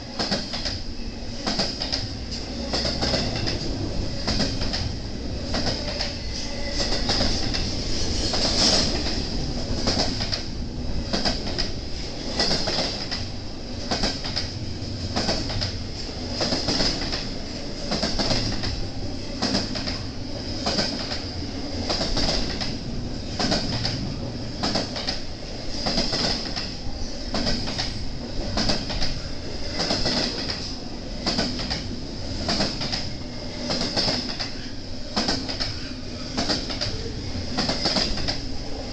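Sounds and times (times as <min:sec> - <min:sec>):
train rumble: 0:00.0 - 0:38.9
train wheels clattering over joints: 0:00.1 - 0:10.5, 0:11.1 - 0:38.5.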